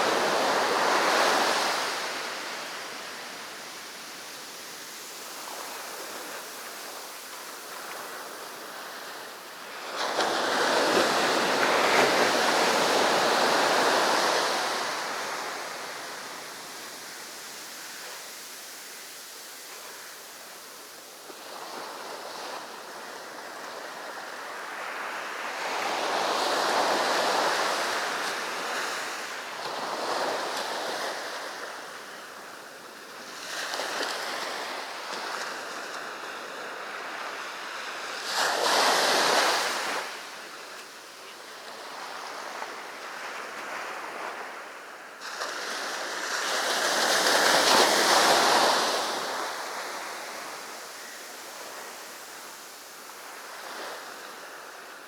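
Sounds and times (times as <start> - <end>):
sea waves breaking on beach: 0.0 - 32.0, 41.6 - 55.0.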